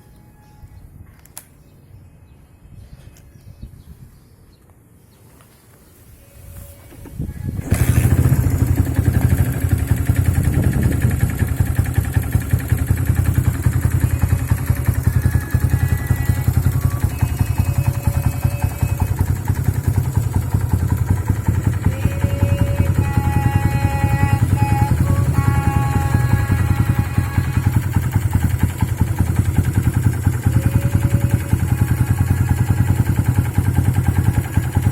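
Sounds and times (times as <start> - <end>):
motorcycle engine starting and idling: 6.4 - 34.9.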